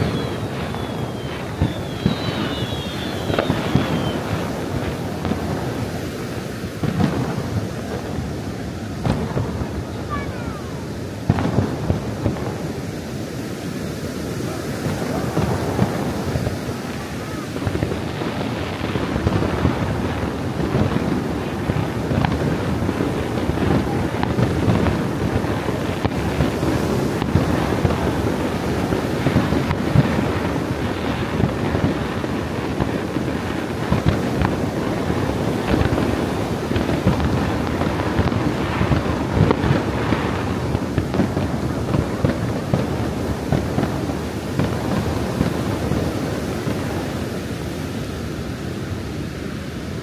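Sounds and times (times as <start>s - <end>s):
fireworks bursting and crackling: 0.0s - 50.0s
wind rumbling on microphone: 0.0s - 50.0s.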